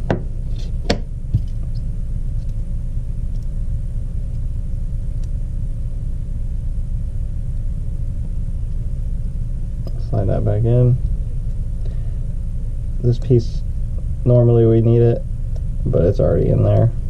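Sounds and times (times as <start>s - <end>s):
faint constant hum: 0.0s - 17.0s
low rumble: 0.0s - 17.0s.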